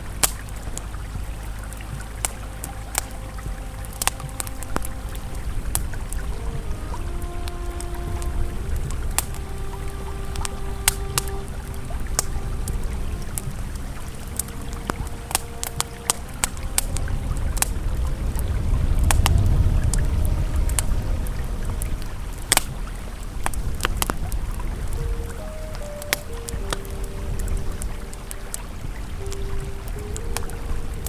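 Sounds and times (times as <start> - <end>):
campfire crackling and popping: 0.0 - 31.0
faint ambient music tones: 0.0 - 31.0
river flowing: 0.0 - 31.0.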